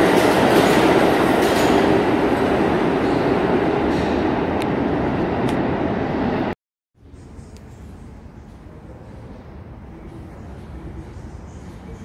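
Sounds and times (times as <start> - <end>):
low rumble of station ambience: 0.0 - 12.0.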